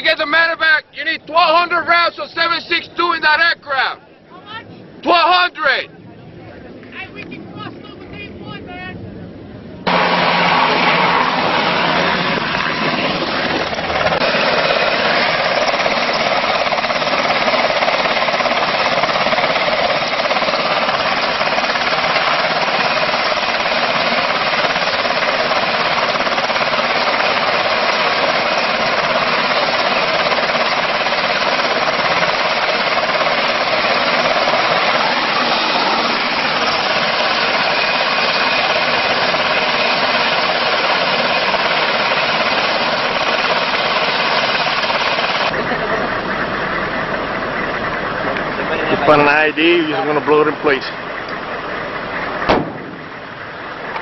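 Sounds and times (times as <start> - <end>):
helicopter rotor blades chopping: 0.0 - 54.0
turbine engines rushing: 0.0 - 54.0.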